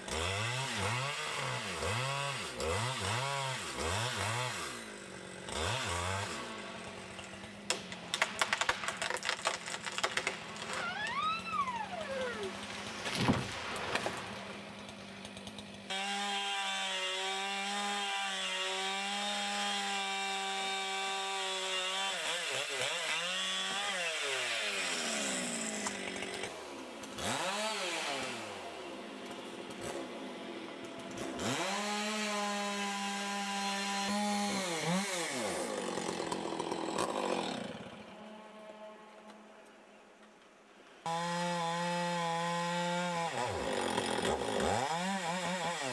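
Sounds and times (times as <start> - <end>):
chainsaw engine revving: 0.0 - 7.7, 8.6 - 29.0, 31.1 - 38.2, 41.1 - 45.9.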